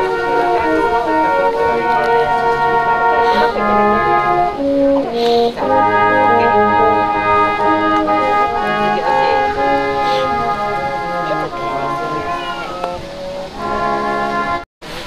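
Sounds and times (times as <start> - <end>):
slow instrumental chords: 0.0 - 14.6.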